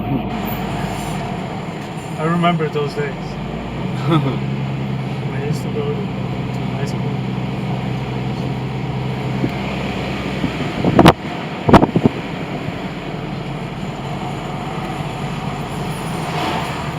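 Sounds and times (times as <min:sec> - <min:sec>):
low engine hum: 0:00.0 - 0:16.9
road and wind noise: 0:00.0 - 0:16.9.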